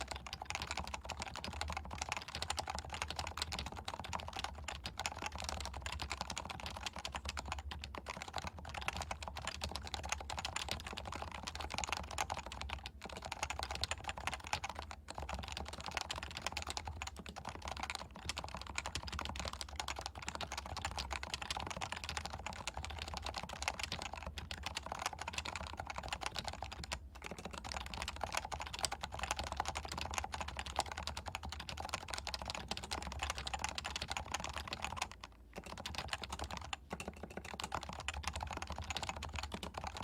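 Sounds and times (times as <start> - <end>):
fast keyboard typing: 0.0 - 40.0.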